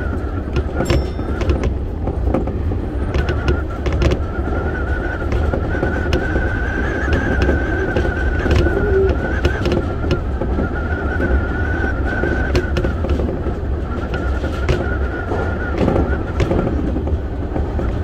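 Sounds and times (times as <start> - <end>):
high motor whine: 0.0 - 17.0
electric train rumble: 0.0 - 18.0.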